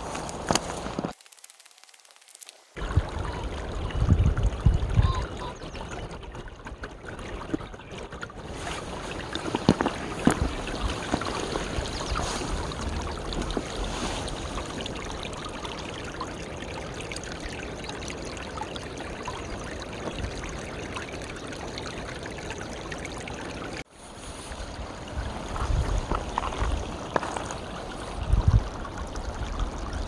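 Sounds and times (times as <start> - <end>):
flowing water rushing: 1.1 - 30.0.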